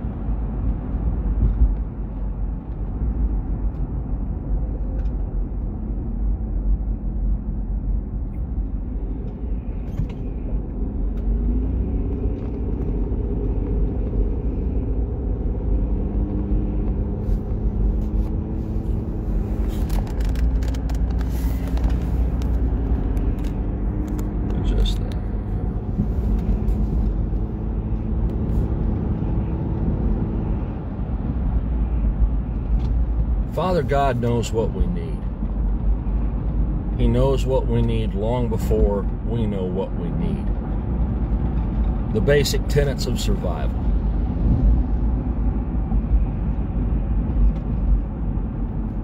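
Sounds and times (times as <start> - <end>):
engine and road rumble: 0.0 - 49.0.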